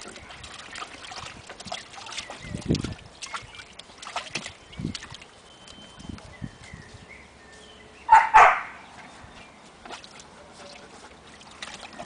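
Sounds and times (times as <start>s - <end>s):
dog splashing in shallow water: 0.0s - 6.4s, 8.1s - 12.0s.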